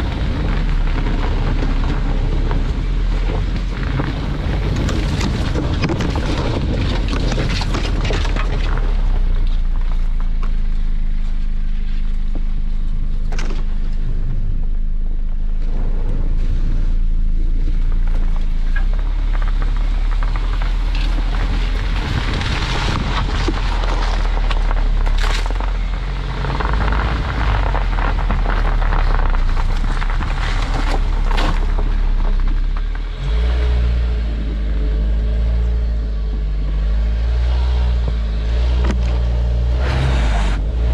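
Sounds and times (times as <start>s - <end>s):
engine and tyre rumble in sand: 0.0s - 40.9s.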